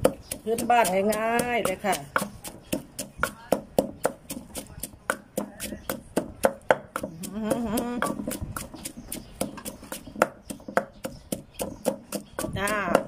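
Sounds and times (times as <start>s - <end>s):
pestle pounding in mortar: 0.0s - 13.0s.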